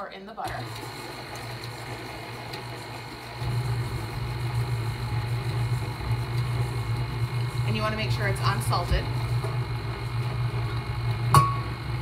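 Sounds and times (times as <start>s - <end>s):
stand mixer motor humming: 0.4s - 12.0s.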